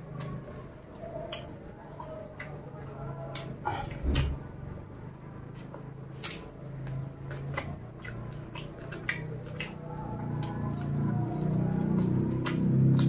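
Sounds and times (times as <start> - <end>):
food crunching and snapping: 0.0 - 13.0
chewing and wet mouth clicks: 0.1 - 3.6, 5.4 - 13.0.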